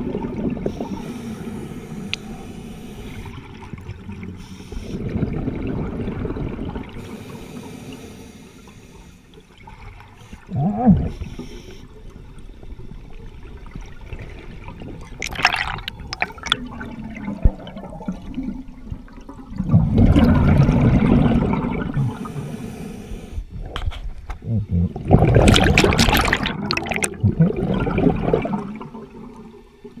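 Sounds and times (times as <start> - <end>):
underwater bubbling and rushing water: 0.0 - 30.0.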